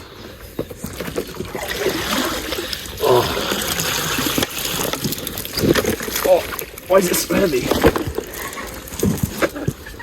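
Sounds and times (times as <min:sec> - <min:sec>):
water splashing and trickling: 0:00.0 - 0:10.0.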